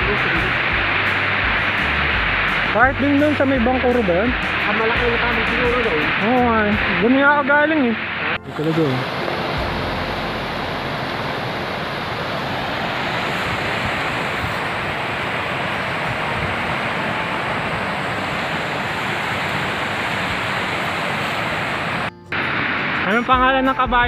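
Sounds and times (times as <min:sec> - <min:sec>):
river rushing over stones: 0:00.0 - 0:23.2.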